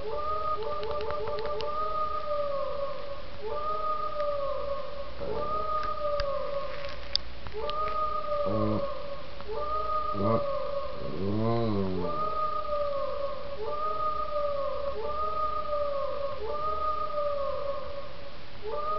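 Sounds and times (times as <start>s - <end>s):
deep wavering voice: 1.6s - 6.8s, 7.6s - 18.9s
dog howling: 1.6s - 6.9s, 7.6s - 18.1s, 18.7s - 18.9s.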